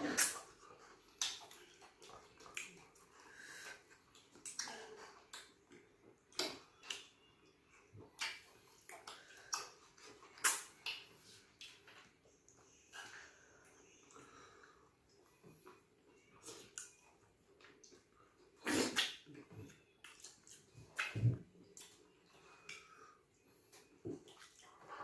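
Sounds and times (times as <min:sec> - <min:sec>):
wet chewing and lip smacking: 0:00.1 - 0:13.2, 0:15.1 - 0:25.0.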